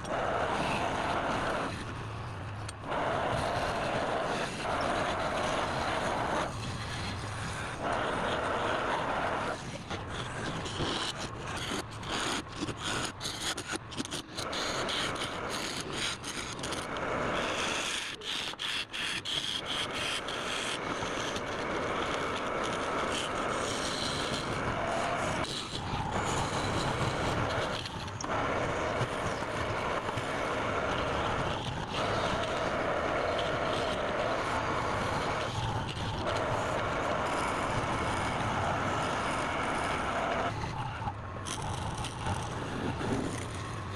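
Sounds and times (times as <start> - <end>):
turning tool scraping wood: 0.0 - 43.9.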